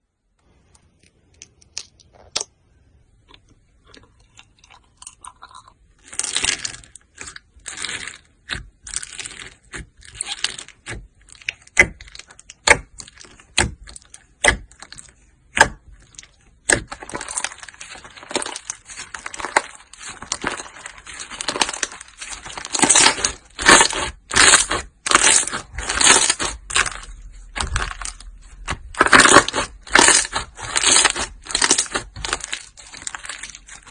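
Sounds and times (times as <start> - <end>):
slime squishing by hand: 5.8 - 33.9.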